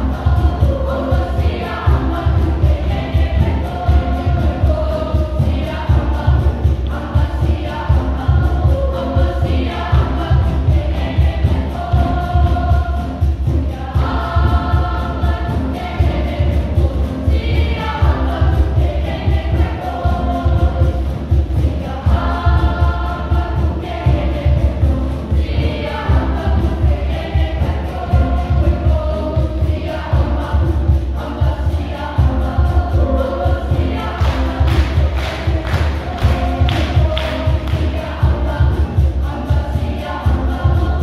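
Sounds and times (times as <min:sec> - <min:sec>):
boys' choir singing: 0:00.0 - 0:41.0
fast drum beat: 0:00.0 - 0:41.0.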